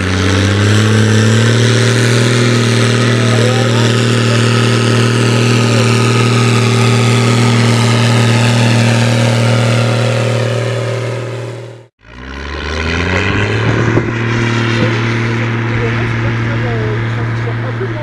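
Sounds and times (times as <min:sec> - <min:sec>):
tractor diesel engine running hard: 0:00.0 - 0:18.0.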